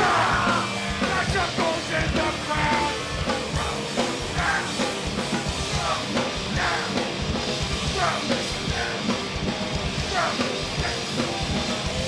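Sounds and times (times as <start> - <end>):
distorted guitars and bass: 0.0 - 12.0
fast pounding drums: 0.0 - 12.0.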